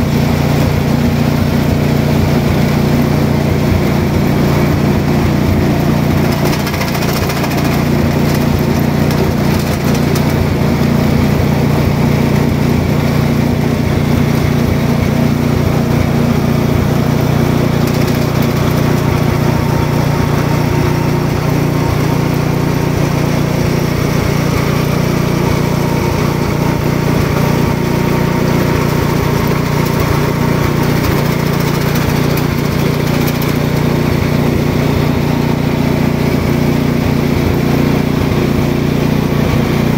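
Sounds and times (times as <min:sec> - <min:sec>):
machine motor droning: 0:00.0 - 0:39.9.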